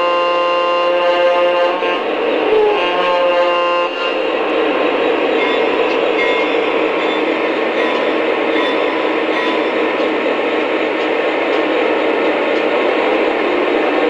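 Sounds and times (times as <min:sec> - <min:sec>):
model trains rolling rumble: 0:00.0 - 0:14.0.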